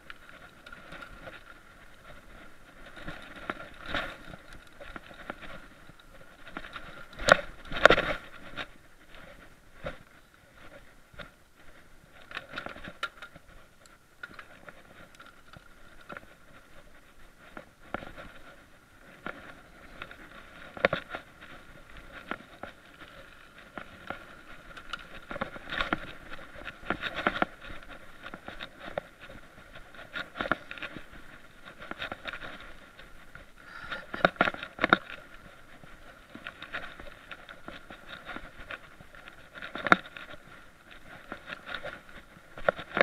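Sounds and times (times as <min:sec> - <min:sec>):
bike rattles and knocks: 0:00.0 - 0:43.0
bike tyres rolling on dirt: 0:00.0 - 0:43.0.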